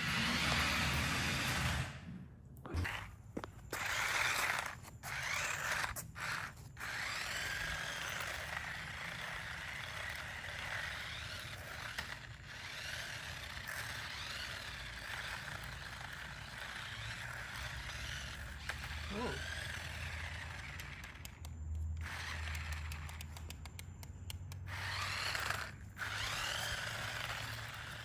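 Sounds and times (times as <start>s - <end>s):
toy car motor whirring: 0.0s - 28.0s.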